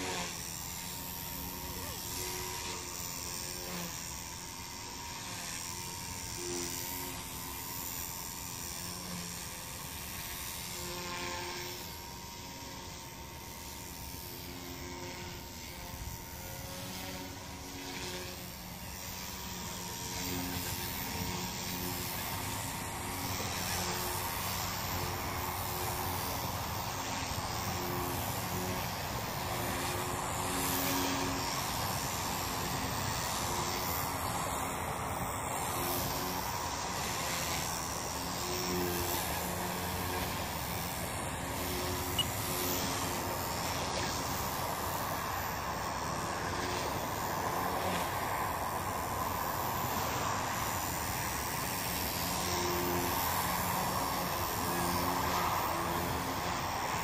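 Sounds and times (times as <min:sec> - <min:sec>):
toy helicopter motor whine: 0:00.0 - 0:57.0.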